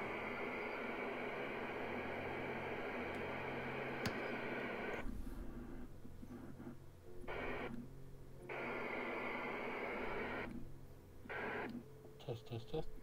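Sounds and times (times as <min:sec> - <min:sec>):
radio static hiss: 0:00.0 - 0:07.9, 0:08.5 - 0:13.0
low steady hum: 0:00.0 - 0:13.0.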